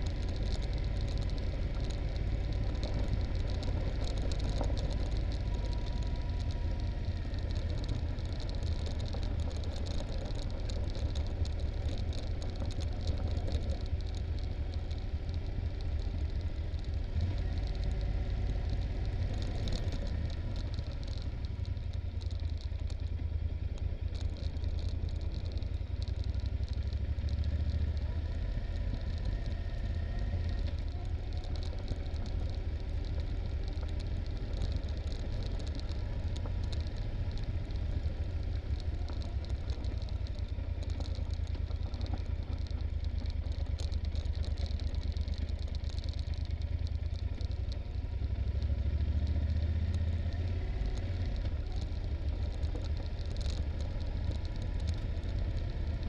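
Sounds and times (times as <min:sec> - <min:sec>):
motorcycle engine rumble: 0:00.0 - 0:56.0
motorcycle rattling over bumps: 0:00.0 - 0:56.0.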